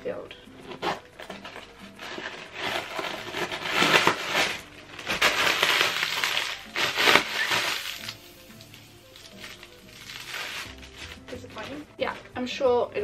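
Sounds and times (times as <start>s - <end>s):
plastic packaging crinkling: 0.7s - 12.3s.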